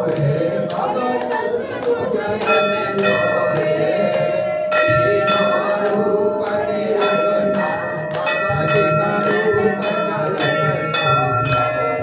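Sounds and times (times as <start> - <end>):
group singing: 0.0 - 12.0
hand clapping: 0.0 - 12.0
temple bell ringing: 2.4 - 12.0.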